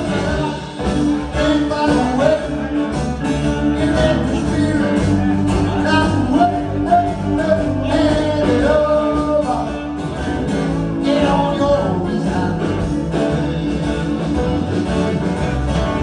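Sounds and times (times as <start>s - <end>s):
person singing: 0.0s - 13.4s
blues band playing: 0.0s - 16.0s.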